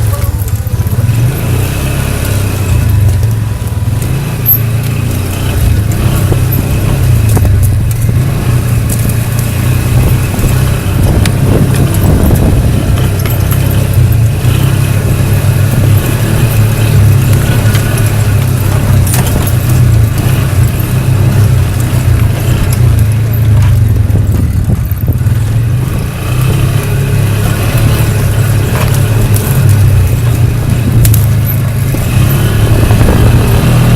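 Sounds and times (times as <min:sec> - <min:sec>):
atv engine running: 0:00.0 - 0:33.9
clicks and rattles: 0:02.8 - 0:14.4, 0:15.4 - 0:25.3, 0:27.4 - 0:33.9.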